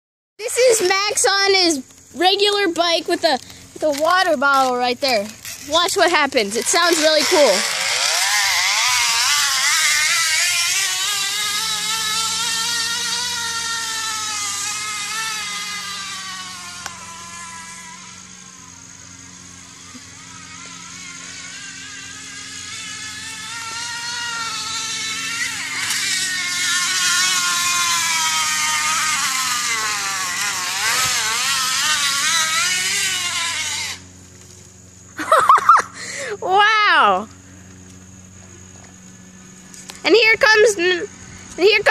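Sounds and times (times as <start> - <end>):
bottle buzzing against bicycle spokes: 0.4 - 41.9.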